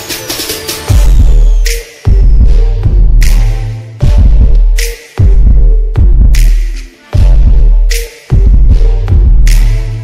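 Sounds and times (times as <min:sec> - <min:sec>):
slowed electronic music: 0:00.0 - 0:10.0
heavy deep-bass hits: 0:00.9 - 0:06.6, 0:07.2 - 0:09.8.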